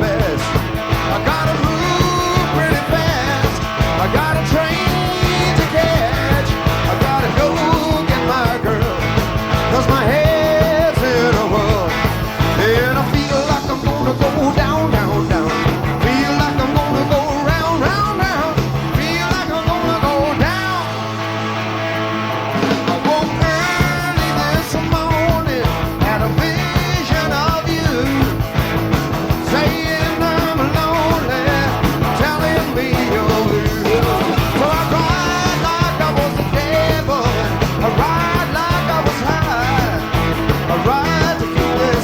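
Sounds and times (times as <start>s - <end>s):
bass guitar: 0.0s - 42.0s
bending lead guitar line: 0.0s - 42.0s
drums: 0.0s - 42.0s
electric guitars: 0.0s - 42.0s.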